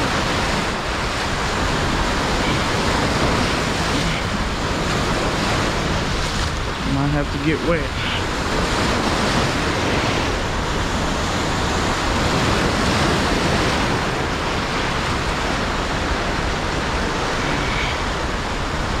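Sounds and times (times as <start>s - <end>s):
waves breaking over rocks: 0.0s - 19.0s.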